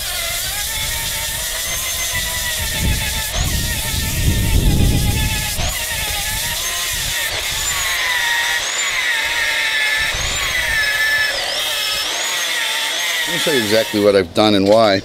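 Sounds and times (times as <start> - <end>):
angle grinder sanding: 0.0 - 15.0.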